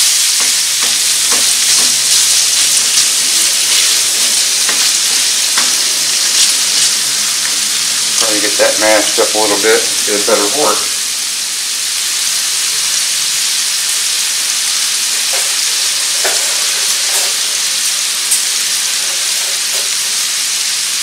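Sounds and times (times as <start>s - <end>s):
ground beef sizzling in a frying pan: 0.0s - 21.0s.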